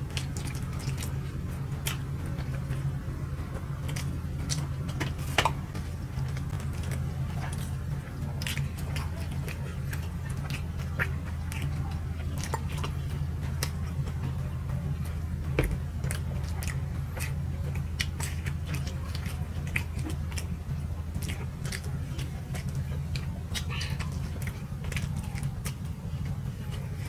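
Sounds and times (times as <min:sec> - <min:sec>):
steady low hum: 0:00.0 - 0:27.0
wet chewing clicks and smacks: 0:00.0 - 0:27.0.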